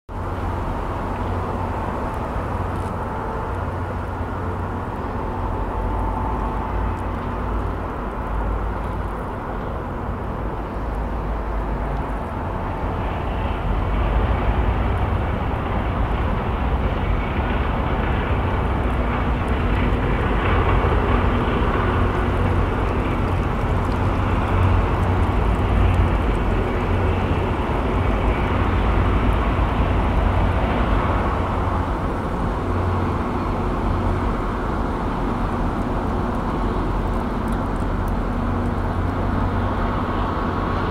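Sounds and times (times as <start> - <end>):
city traffic rumble: 0.1 - 40.9
commuter train rolling past: 0.1 - 40.9.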